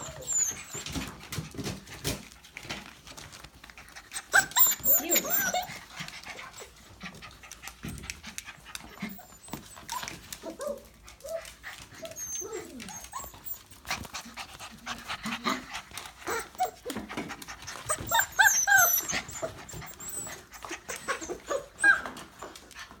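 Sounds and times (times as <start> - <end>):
puppies squeaking and whimpering: 0.0 - 1.8, 3.1 - 8.1, 8.8 - 23.0
small clicks and scuffling: 0.1 - 23.0.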